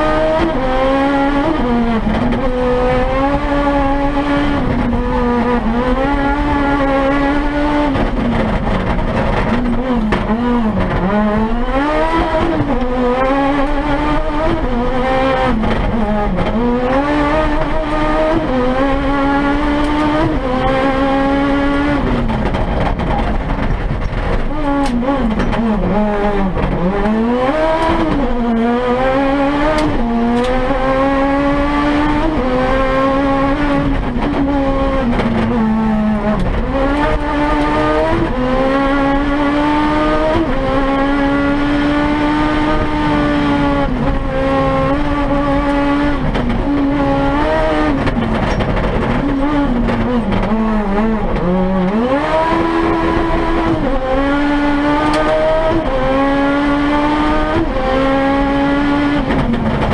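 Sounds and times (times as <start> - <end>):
car engine revving hard: 0.0 - 59.9.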